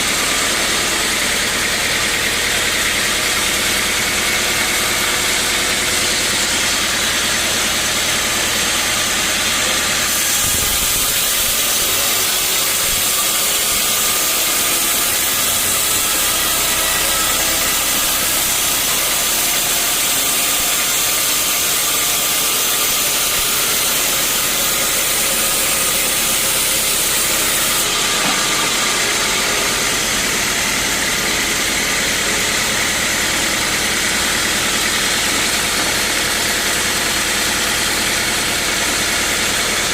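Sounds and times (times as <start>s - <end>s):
saw blade cutting log: 0.0s - 39.9s
sawmill engine humming: 0.0s - 39.9s.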